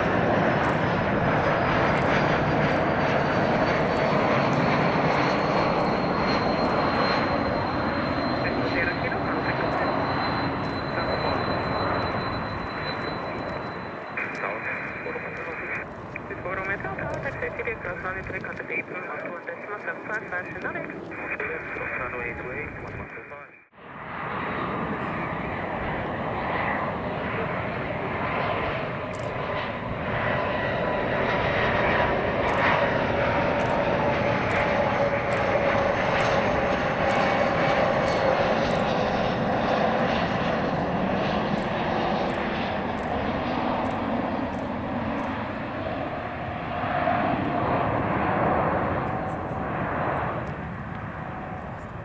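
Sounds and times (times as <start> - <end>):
jet engines rushing and whining: 0.0 - 52.0.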